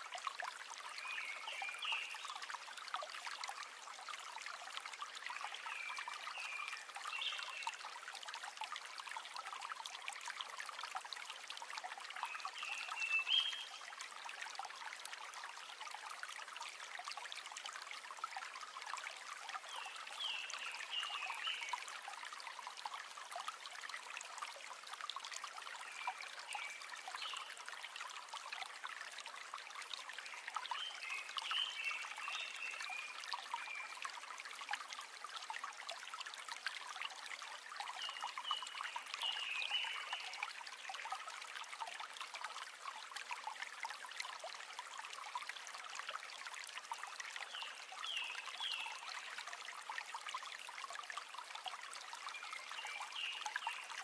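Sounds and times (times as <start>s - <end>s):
river water babbling: 0.0s - 54.0s.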